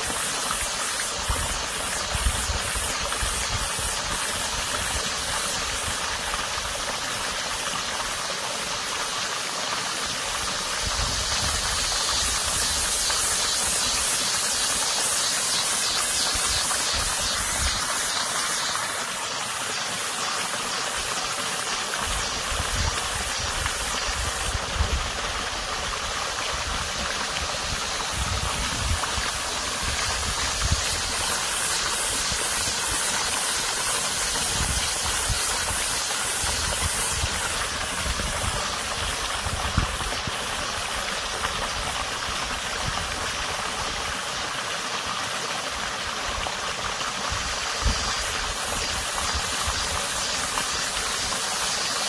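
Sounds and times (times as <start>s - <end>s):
cicada buzz: 0.0s - 52.0s
stream water rushing: 0.0s - 52.0s.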